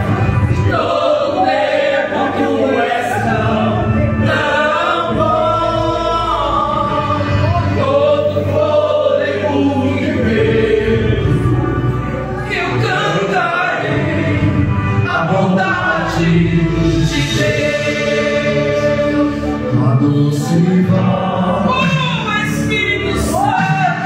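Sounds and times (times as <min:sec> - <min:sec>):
music under voices: 0:00.0 - 0:24.0
man singing: 0:03.1 - 0:24.0.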